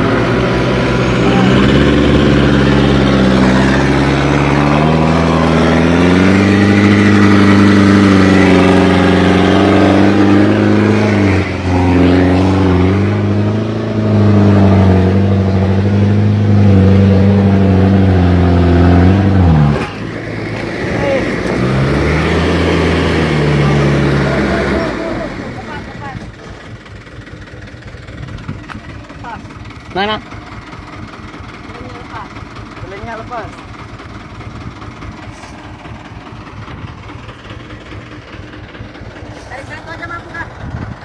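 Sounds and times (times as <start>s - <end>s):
truck diesel engine revving: 0.0s - 41.0s.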